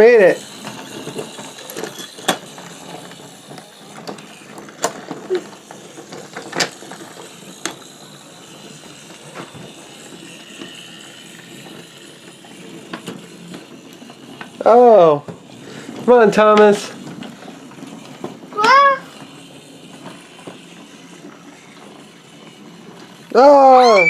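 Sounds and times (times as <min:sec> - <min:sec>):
toy train motor whirring: 0:00.0 - 0:24.0.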